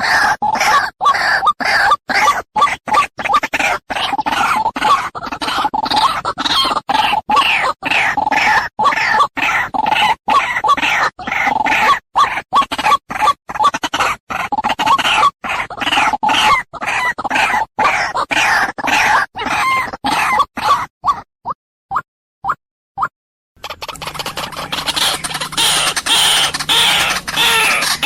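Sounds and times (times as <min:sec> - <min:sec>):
bird harsh croaking calls: 0:00.0 - 0:20.9, 0:23.6 - 0:28.0.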